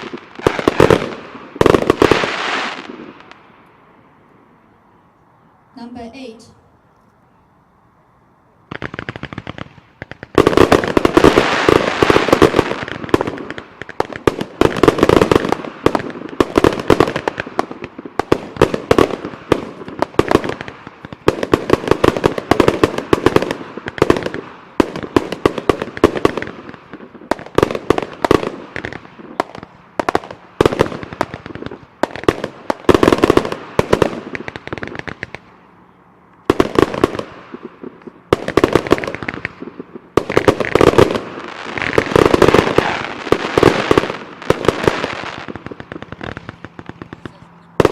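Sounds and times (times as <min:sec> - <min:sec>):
fireworks bangs and crackling: 0:00.0 - 0:03.5, 0:08.6 - 0:47.9.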